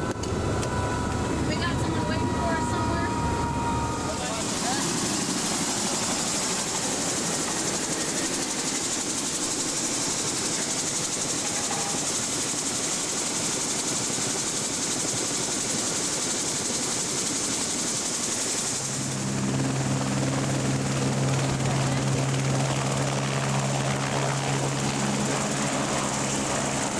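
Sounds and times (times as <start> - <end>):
helicopter turbine and rotor: 0.0 - 26.9.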